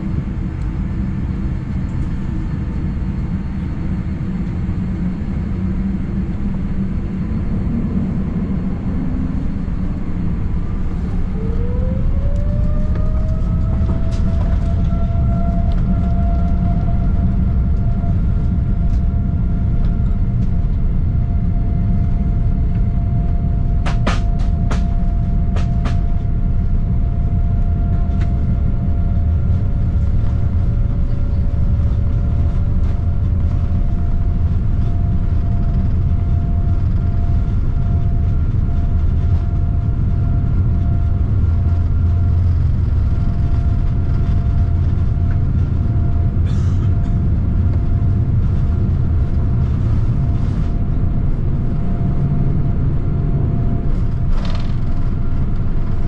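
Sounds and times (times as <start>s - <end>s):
jet engines at takeoff power: 0.0s - 56.0s
thin steady whine: 0.0s - 56.0s
wheels rumbling on runway: 0.0s - 56.0s.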